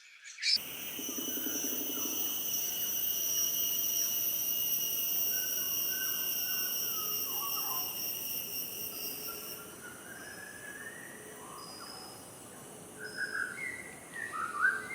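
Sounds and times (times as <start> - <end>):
insect chorus: 0.0 - 14.9.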